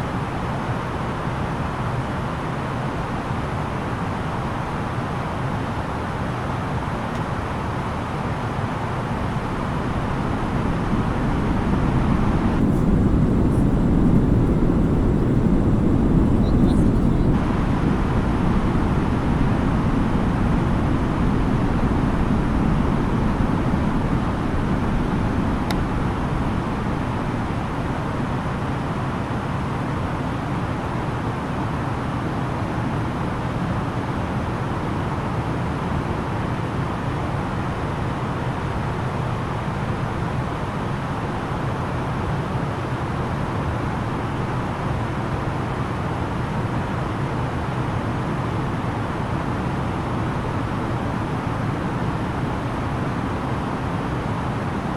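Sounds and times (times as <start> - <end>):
airflow rush in aircraft cabin: 0.0 - 54.9
low hum of jet engines: 0.0 - 54.9.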